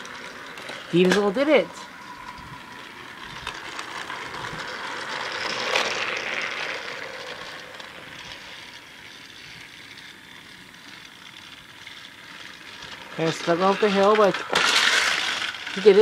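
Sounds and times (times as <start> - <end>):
toy train motor whirring: 0.0 - 16.0
toy train trucks rattling: 0.0 - 16.0.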